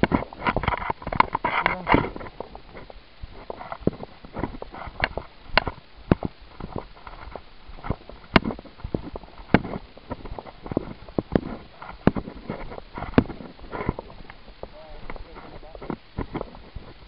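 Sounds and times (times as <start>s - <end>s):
footsteps crunching on dry dirt: 0.0s - 17.0s.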